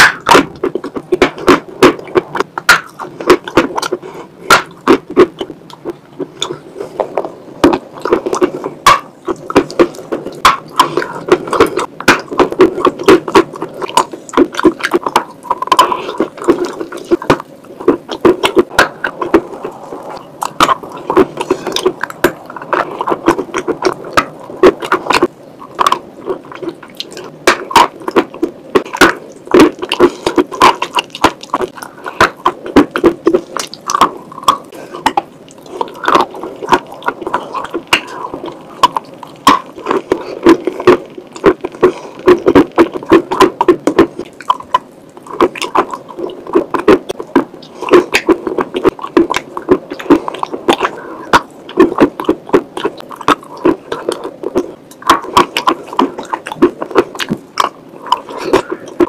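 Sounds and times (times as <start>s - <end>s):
wet chewing and mouth clicks: 0.0s - 59.0s.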